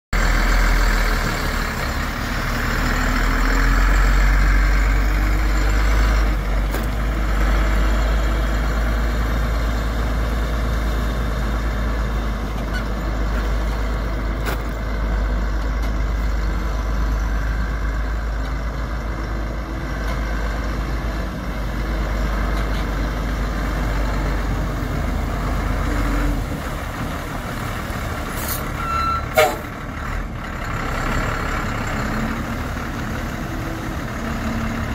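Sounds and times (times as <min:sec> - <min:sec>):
vehicle running rumble: 0:00.1 - 0:34.9.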